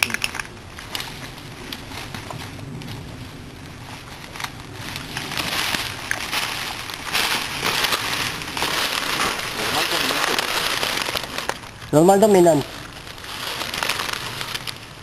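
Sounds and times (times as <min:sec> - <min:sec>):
leaves rustling underfoot: 0:00.0 - 0:15.0.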